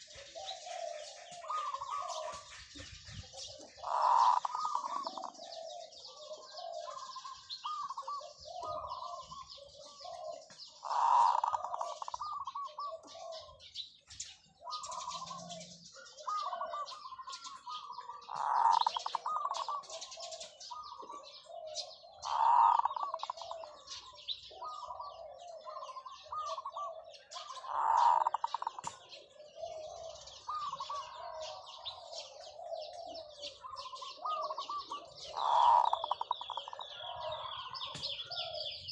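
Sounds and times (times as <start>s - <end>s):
dove cooing: 0.0s - 38.9s
small birds twittering: 0.0s - 38.9s.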